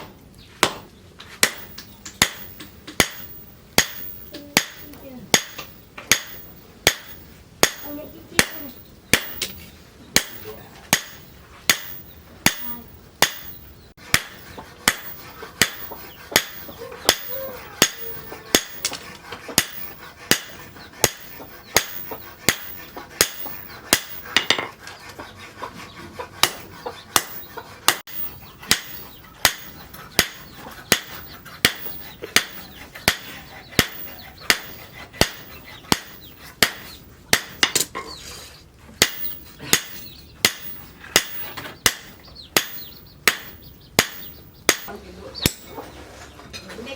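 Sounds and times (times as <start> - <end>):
hammer striking steel: 0.0 - 9.6, 10.2 - 24.8, 26.4 - 37.9, 39.0 - 45.8.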